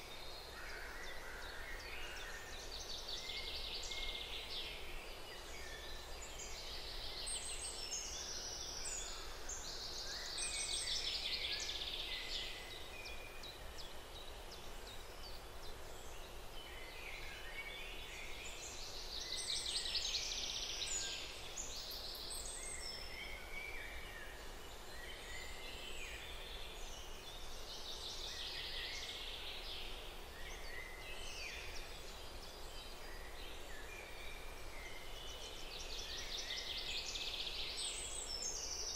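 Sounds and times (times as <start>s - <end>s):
small birds chirping and singing: 0.0s - 38.9s
soft steady hiss: 0.0s - 38.9s.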